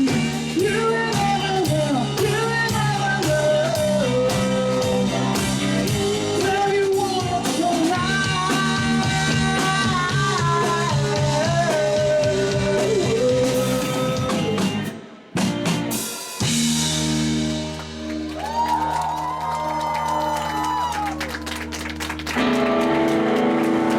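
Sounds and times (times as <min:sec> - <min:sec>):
rock band with singer: 0:00.0 - 0:23.9.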